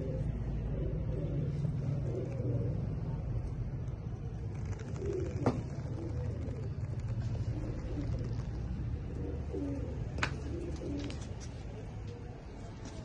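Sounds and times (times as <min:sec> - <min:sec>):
pigeons cooing: 0:00.0 - 0:12.3
steady low hum: 0:00.0 - 0:13.0.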